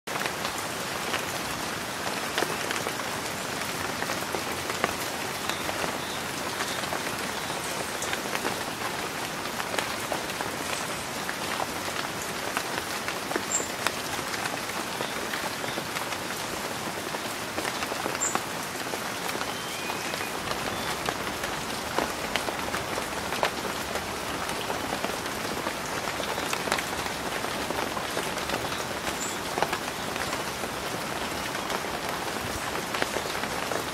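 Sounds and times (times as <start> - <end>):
rain pattering on leaves: 0.1 - 33.9.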